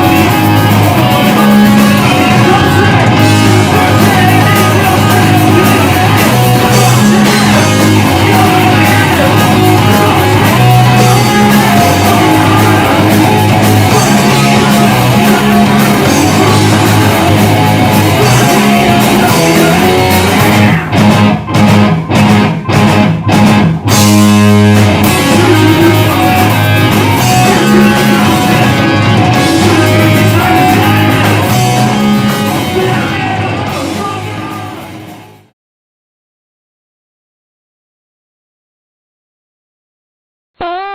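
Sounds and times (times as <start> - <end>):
hardcore band playing heavy riff: 0.0 - 35.5.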